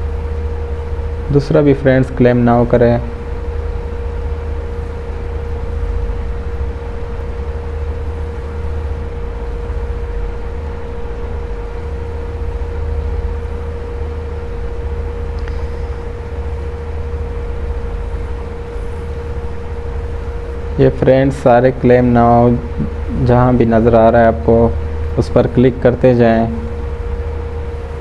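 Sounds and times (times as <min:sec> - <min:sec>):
mid-pitched hum: 0:00.0 - 0:28.0.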